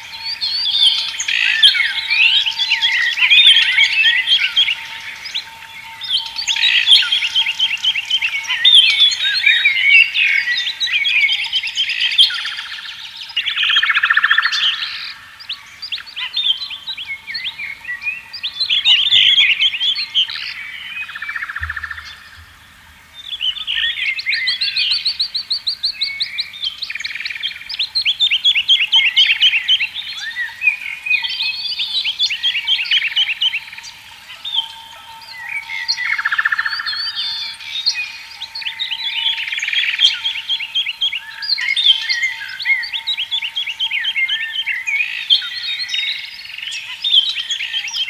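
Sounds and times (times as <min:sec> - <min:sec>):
songbirds singing: 0:00.0 - 0:48.0.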